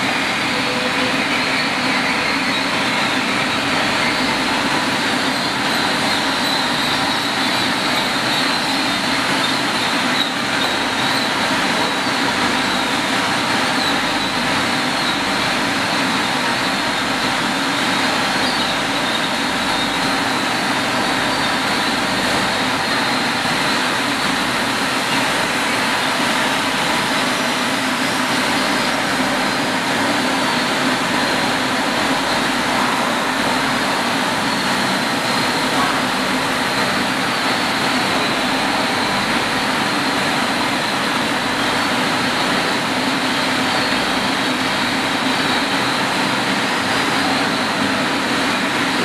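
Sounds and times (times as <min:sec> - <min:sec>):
processing machinery humming: 0:00.0 - 0:49.0.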